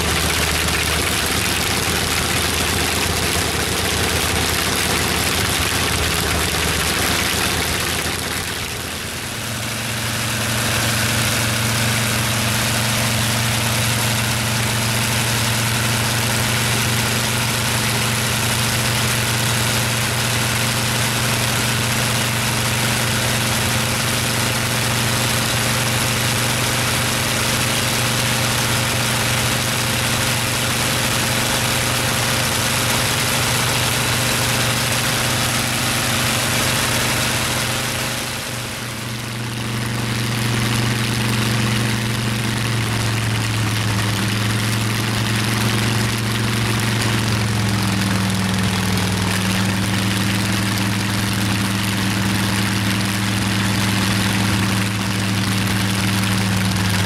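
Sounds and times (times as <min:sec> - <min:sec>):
radial engine running: 0:00.0 - 0:57.0.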